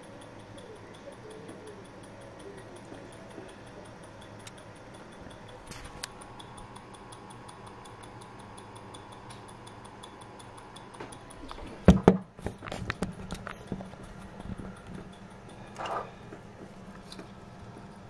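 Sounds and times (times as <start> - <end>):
mechanical watch ticking: 0.0 - 18.0.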